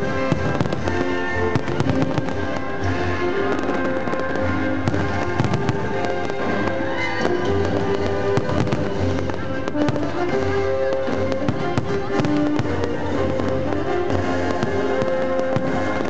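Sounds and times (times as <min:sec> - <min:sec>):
fireworks bursting and crackling: 0:00.0 - 0:16.0
music with long held notes: 0:00.0 - 0:16.0.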